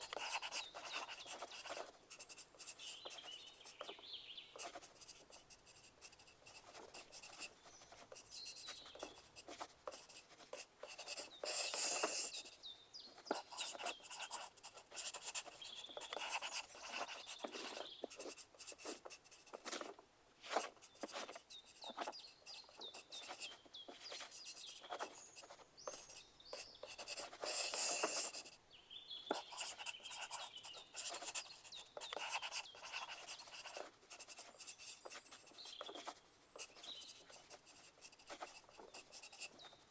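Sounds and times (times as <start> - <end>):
pencil writing on paper: 0.0 - 4.0, 4.6 - 12.6, 13.2 - 28.6, 29.3 - 39.8.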